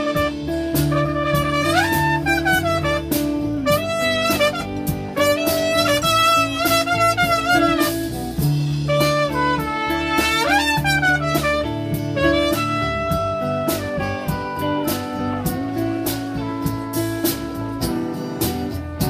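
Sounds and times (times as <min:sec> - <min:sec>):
drum kit: 0:00.0 - 0:19.0
guitars: 0:00.0 - 0:19.0
trumpet melody: 0:00.0 - 0:19.0.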